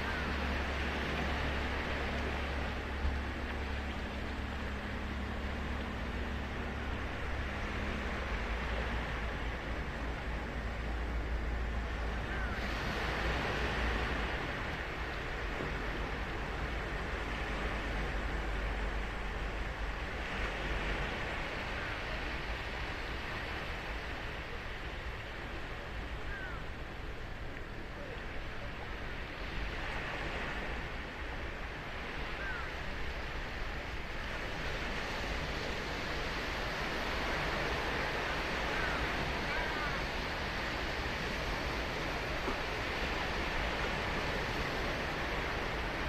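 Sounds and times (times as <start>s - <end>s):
waves breaking on beach: 0.0s - 46.0s.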